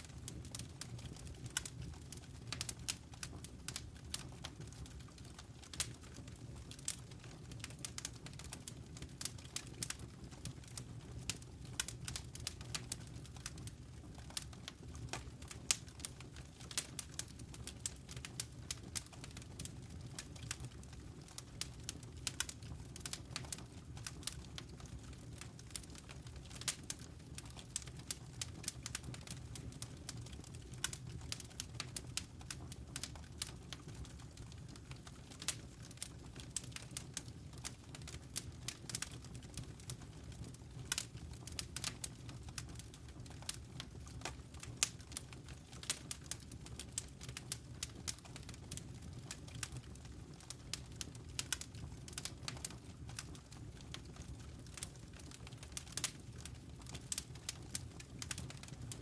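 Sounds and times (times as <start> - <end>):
fire crackling in fireplace: 0.0 - 59.0.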